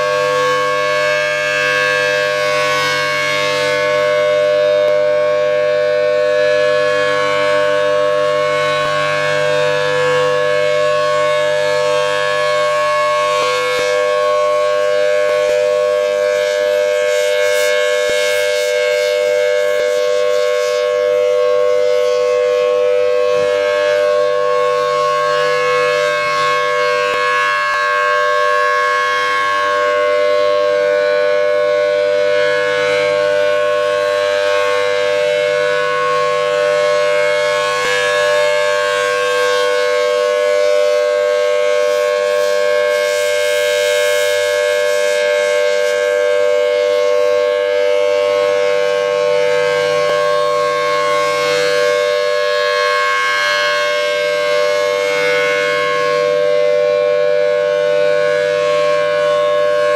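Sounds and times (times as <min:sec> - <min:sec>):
warning siren: 0:00.0 - 0:59.9.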